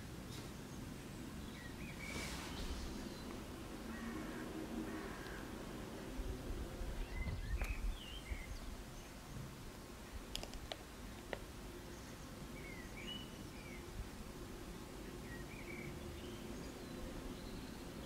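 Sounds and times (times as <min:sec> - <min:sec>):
background hiss: 0:00.0 - 0:18.0
birds chirping: 0:00.3 - 0:06.2, 0:06.8 - 0:14.0, 0:14.6 - 0:18.0.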